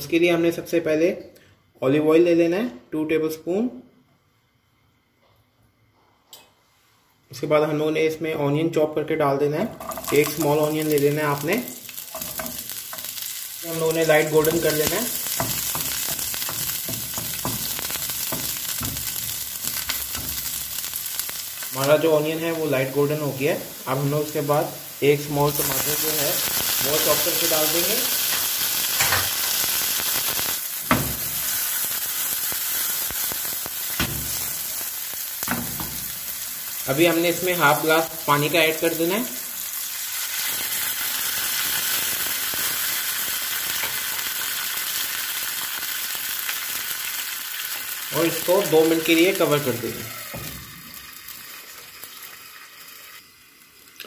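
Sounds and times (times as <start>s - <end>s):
onion sizzling in oil: 9.4s - 54.0s.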